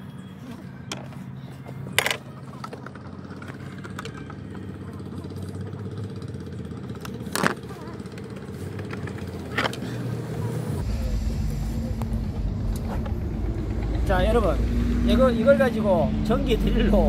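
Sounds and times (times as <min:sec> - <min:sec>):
car engine idling: 0:00.9 - 0:17.0.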